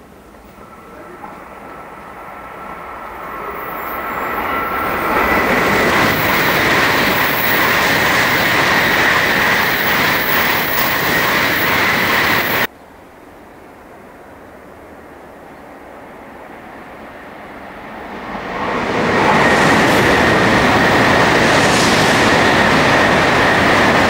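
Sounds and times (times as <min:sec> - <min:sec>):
train passing with whine: 0:00.0 - 0:24.0.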